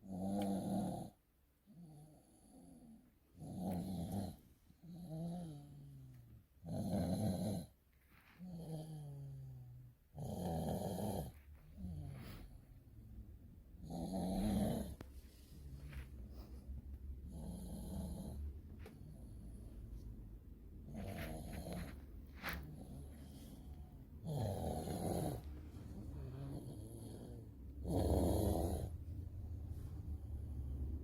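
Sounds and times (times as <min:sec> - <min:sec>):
dog snoring: 0:00.0 - 0:07.8, 0:08.4 - 0:12.6, 0:13.8 - 0:16.6, 0:17.2 - 0:19.8, 0:20.8 - 0:29.2.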